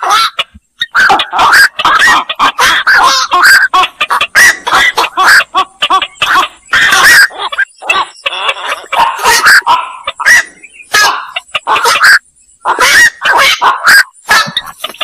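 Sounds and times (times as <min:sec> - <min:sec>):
herons calling harshly: 0:00.0 - 0:15.0.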